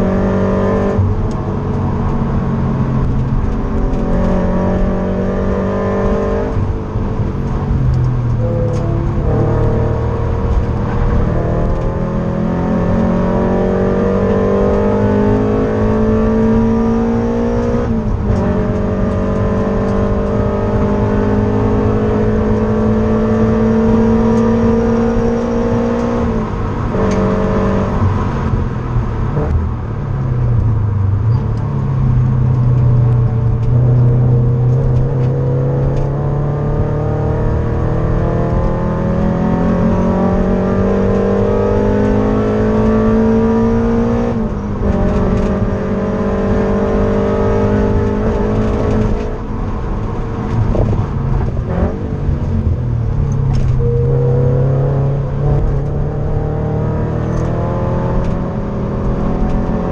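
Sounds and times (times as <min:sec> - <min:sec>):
car engine accelerating: 0:00.0 - 0:59.9
tyre and wind noise: 0:00.0 - 0:59.9.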